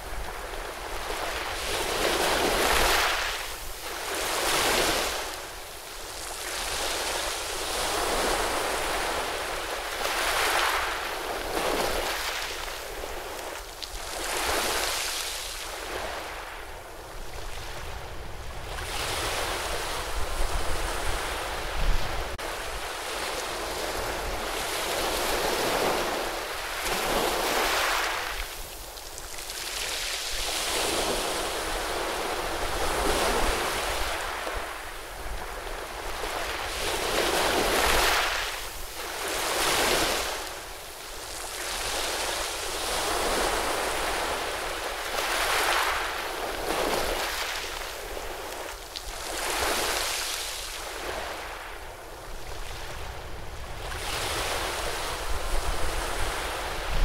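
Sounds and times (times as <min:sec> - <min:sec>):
wind rumbling on microphone: 0:00.0 - 0:50.1, 0:50.8 - 0:57.0.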